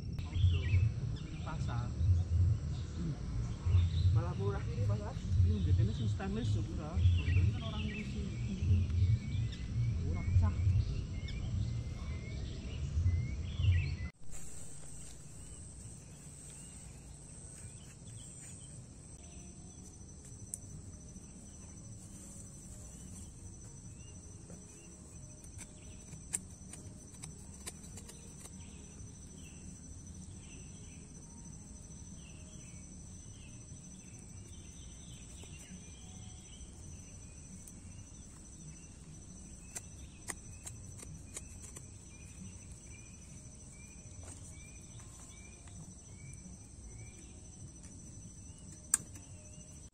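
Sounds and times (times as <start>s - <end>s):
high-pitched insect chorus: 0.0s - 12.8s, 13.4s - 49.9s.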